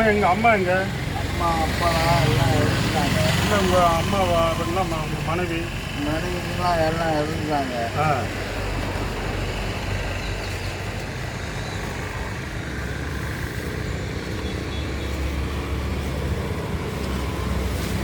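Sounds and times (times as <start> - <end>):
deep engine rumble: 0.0 - 18.0
hum of passing vehicles: 0.0 - 18.0.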